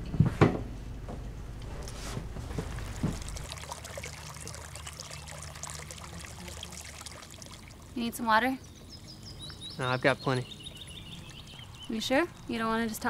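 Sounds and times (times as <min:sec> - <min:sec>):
water gurgling into plastic bottle: 0:02.4 - 0:13.0.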